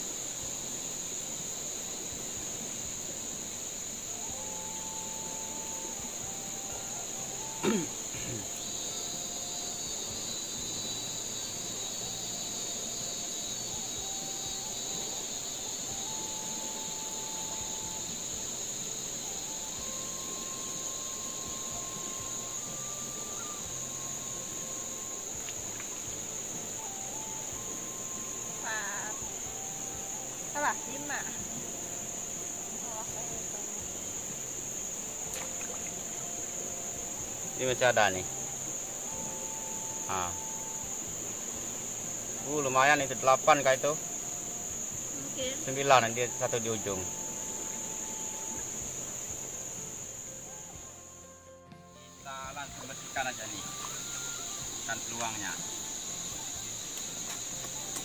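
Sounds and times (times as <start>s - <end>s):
faint held notes: 0.0s - 58.0s
insect chorus drone: 0.0s - 58.0s.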